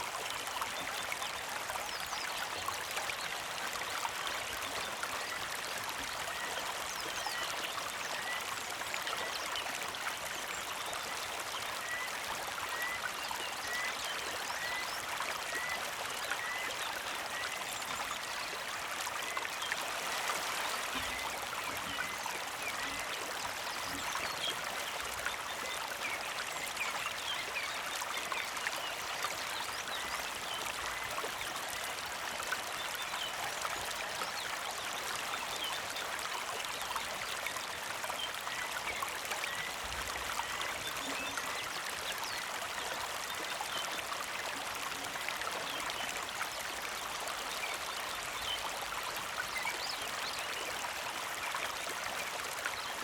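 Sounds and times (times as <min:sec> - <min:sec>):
creek trickling: 0:00.0 - 0:53.0.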